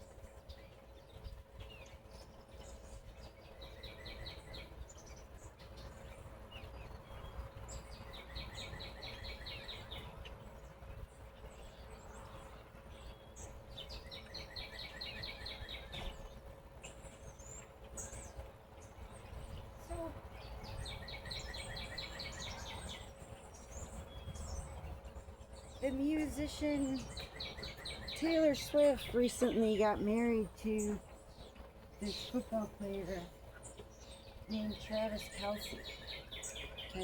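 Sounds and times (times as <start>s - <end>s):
bird singing: 0.0s - 37.0s
low hum and rumble: 0.0s - 37.0s.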